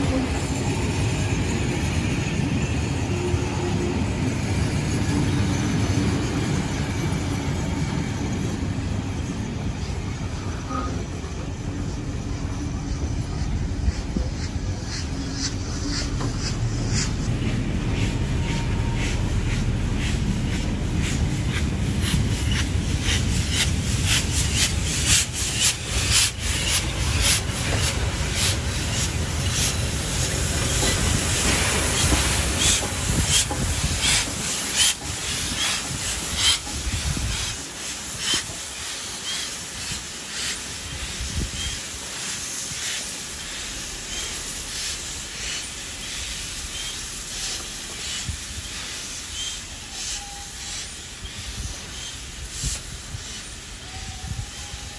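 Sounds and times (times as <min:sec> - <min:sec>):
steam hissing from locomotive: 0:00.0 - 0:54.9
train rumbling past: 0:00.0 - 0:54.9.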